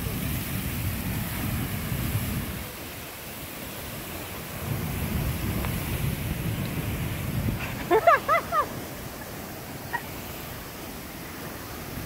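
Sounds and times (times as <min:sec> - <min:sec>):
geyser erupting: 0:00.0 - 0:12.0.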